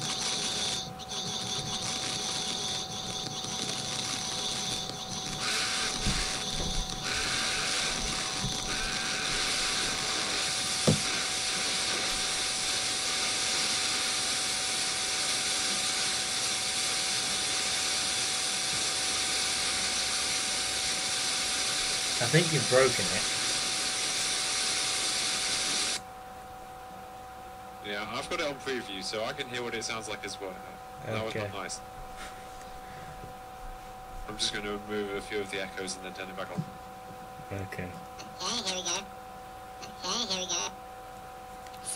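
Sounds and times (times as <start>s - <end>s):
electronic hiss with constant tone: 0.0s - 41.9s.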